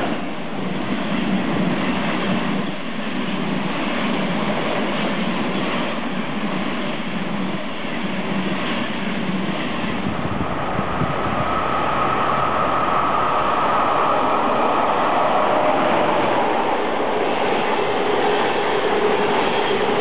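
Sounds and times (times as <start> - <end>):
electric locomotive whine: 0.0 - 20.0
train coaches rolling on rails: 0.0 - 20.0.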